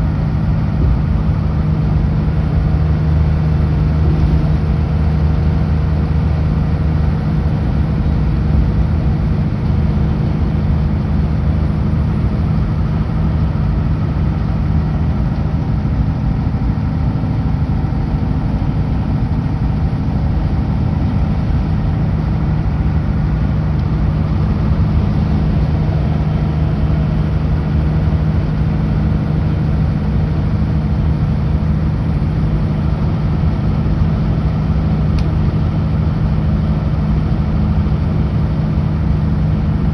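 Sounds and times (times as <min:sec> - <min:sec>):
road noise: 0:00.0 - 0:39.9
truck diesel engine running: 0:00.0 - 0:39.9.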